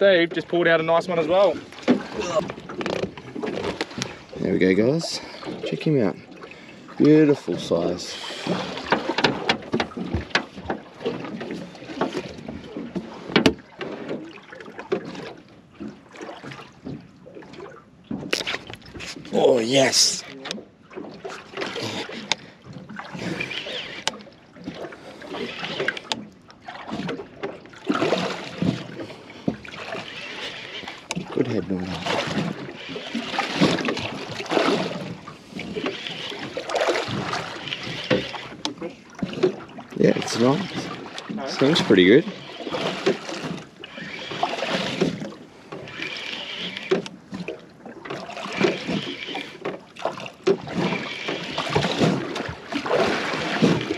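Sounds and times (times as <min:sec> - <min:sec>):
knocks and clunks aboard boat: 0:00.0 - 0:53.9
water sloshing against metal hull: 0:00.0 - 0:53.9.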